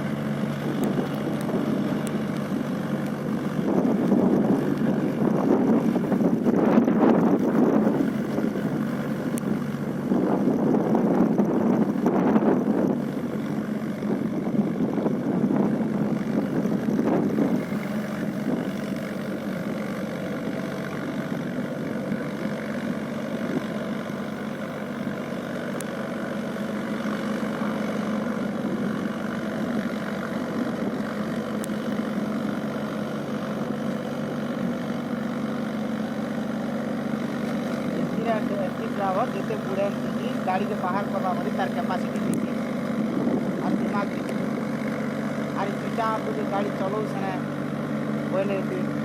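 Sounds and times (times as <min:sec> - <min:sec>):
tractor diesel engine idling: 0:00.0 - 0:49.0.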